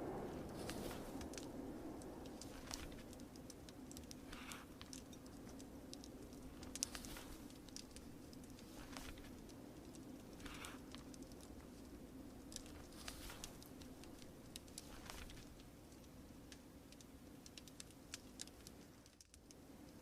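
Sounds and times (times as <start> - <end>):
low background rush: 0.0 - 20.0
wood fire crackling and popping: 0.0 - 20.0.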